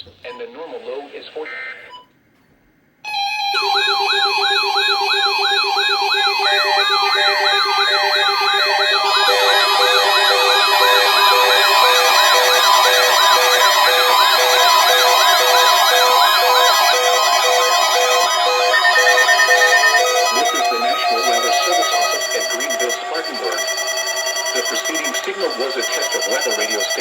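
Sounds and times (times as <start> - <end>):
pulsing beep: 3.1 - 27.0
siren-like wail: 3.1 - 27.0
steady alarm tones: 3.1 - 27.0.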